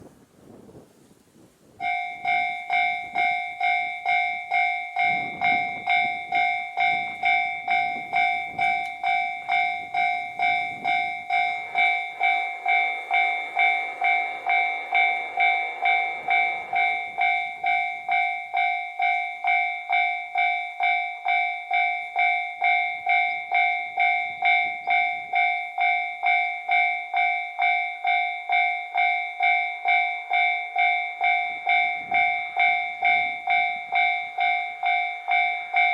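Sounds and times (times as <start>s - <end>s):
level crossing warning bell: 1.8s - 35.9s.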